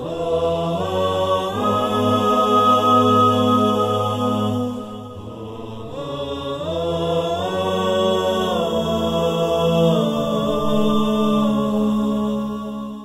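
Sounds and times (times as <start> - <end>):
slow chanted vocal music: 0.0 - 13.0.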